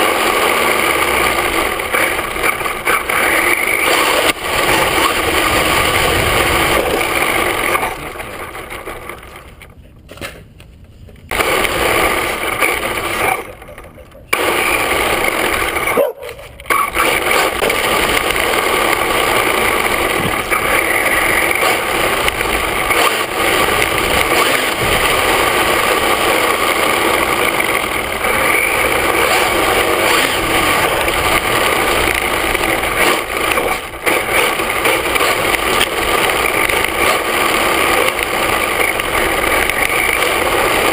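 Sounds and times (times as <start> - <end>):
tyre rumble on asphalt: 0.0 - 9.7, 14.4 - 40.9
rc truck motor and gear whine: 0.0 - 9.8, 11.2 - 40.9.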